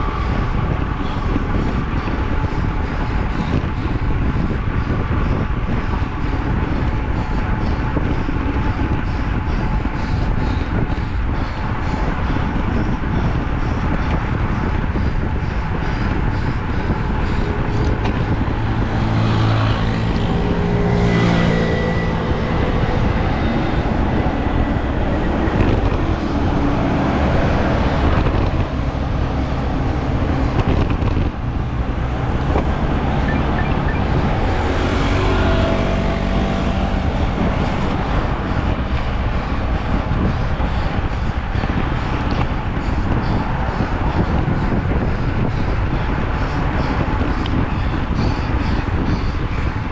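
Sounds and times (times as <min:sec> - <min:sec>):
steady loud rushing noise: 0:00.0 - 0:49.9
vehicle engines on a road: 0:00.0 - 0:49.9.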